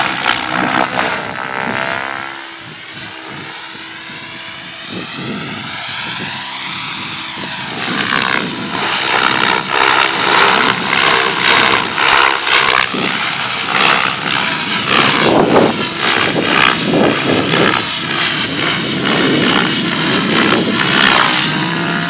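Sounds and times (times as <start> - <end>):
rc helicopter whirring whine: 0.0 - 22.0.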